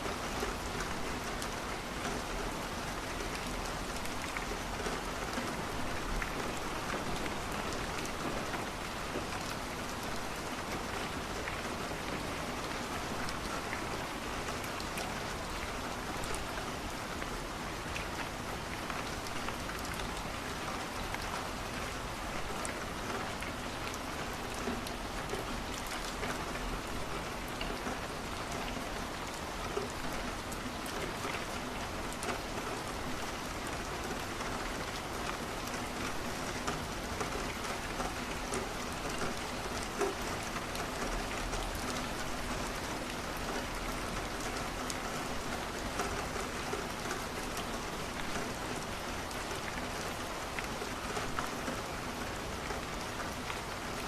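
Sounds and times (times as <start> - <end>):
rain against a window: 0.0 - 54.0
ticks of raindrops: 0.0 - 54.0.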